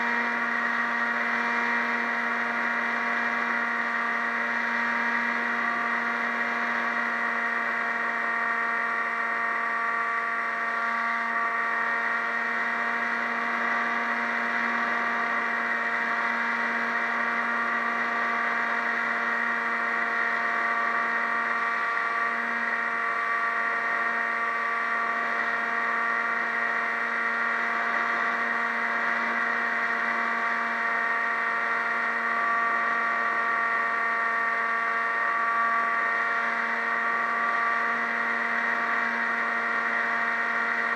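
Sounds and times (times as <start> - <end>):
model plane motor and propeller: 0.0 - 40.9.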